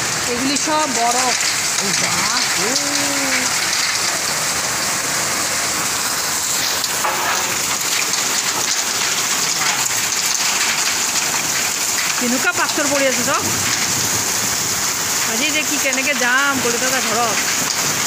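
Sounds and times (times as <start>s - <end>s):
hailstones ticking on ground: 0.0s - 18.0s
heavy rain: 0.0s - 18.0s.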